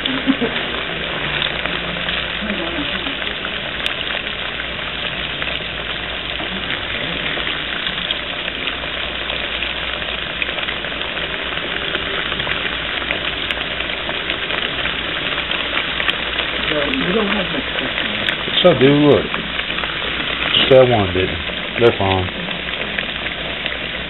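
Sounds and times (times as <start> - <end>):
deep-frying sizzle with crackles: 0.0 - 24.0.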